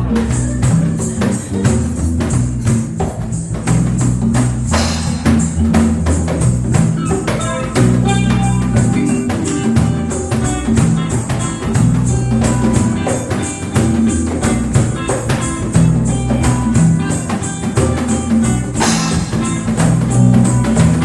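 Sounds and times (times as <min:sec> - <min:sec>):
live reggae band playing: 0:00.0 - 0:21.0.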